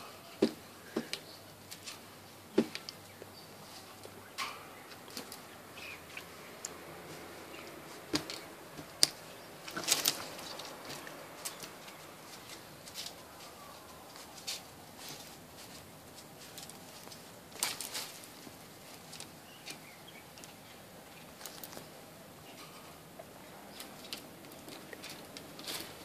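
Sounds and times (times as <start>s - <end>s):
rustling: 0.0s - 26.0s.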